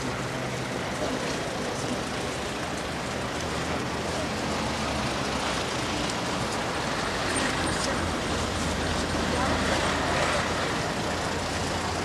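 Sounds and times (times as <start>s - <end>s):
street noise hiss: 0.0s - 12.0s.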